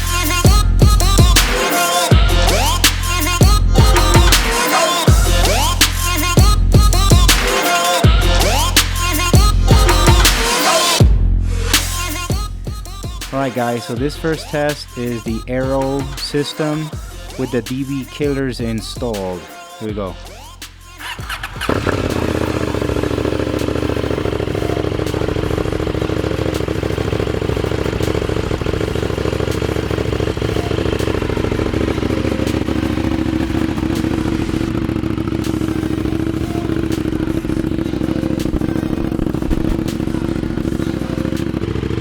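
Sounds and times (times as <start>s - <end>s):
motorcycle engine idling: 0.0s - 11.2s, 11.9s - 42.0s.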